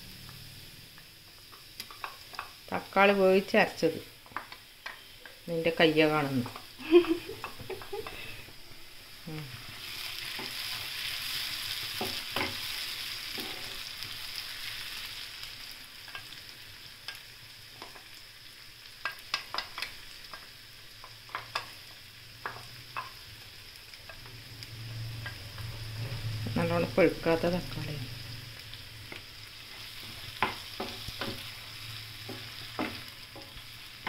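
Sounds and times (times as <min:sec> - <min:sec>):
tomato puree sizzling in hot oil: 0:00.0 - 0:34.0.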